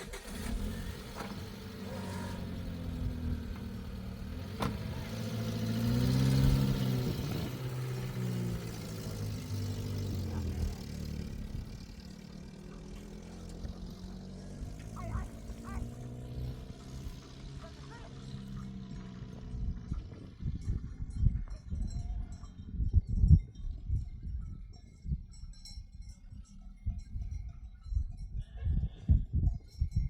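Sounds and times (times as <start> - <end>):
vehicle engine running: 0.0 - 28.2.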